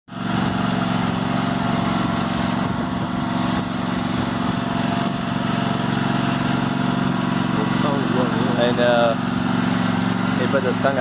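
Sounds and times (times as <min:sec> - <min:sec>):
riding lawn mower engine running: 0:00.1 - 0:11.0.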